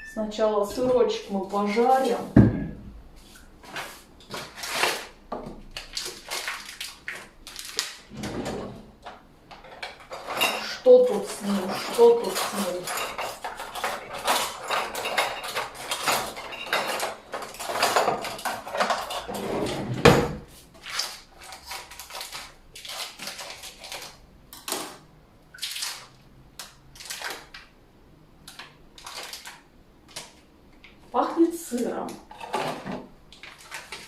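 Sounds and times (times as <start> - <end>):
rustling and clicking of items: 0.6 - 27.7, 28.4 - 34.0.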